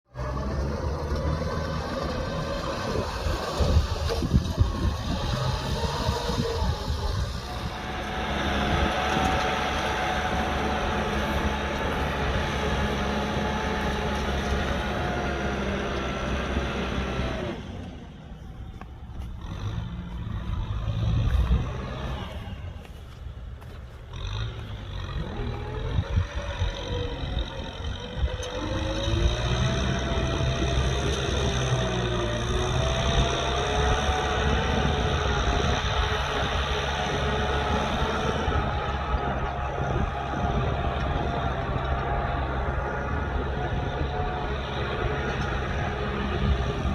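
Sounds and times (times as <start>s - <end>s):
tractor diesel engine running: 0.0s - 46.9s
wind buffeting microphone: 1.6s - 17.6s, 18.6s - 46.9s.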